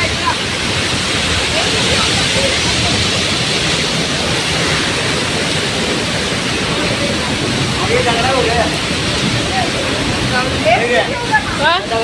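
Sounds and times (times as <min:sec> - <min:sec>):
rushing falling water: 0:00.0 - 0:12.0.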